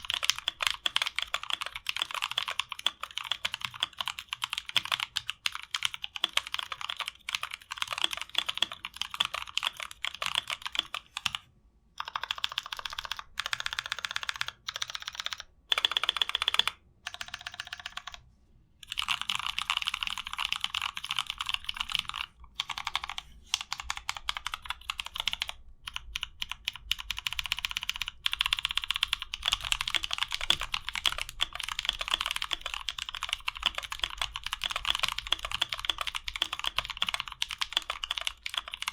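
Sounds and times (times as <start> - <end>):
mechanical keyboard typing: 0.0 - 11.4, 12.0 - 18.2, 18.8 - 38.9.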